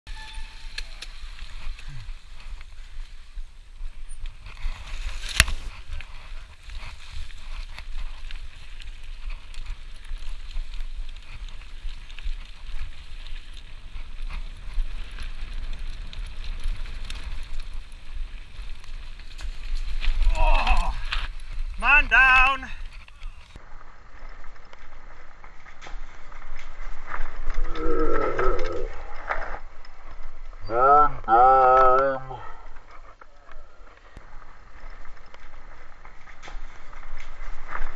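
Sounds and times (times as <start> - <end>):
bike rattling and clicking: 0.1 - 21.8, 22.7 - 30.6, 32.6 - 37.9
bike tyres on dirt: 0.1 - 37.9.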